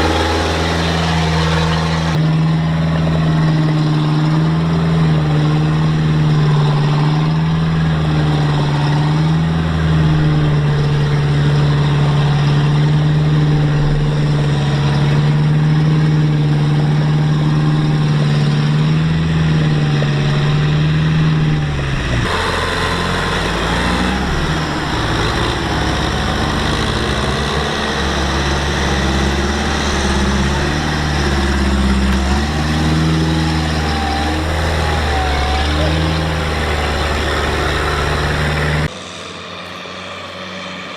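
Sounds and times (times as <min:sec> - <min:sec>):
farm machinery diesel engines: 0:00.0 - 0:40.9
rough noisy engine: 0:00.0 - 0:40.9.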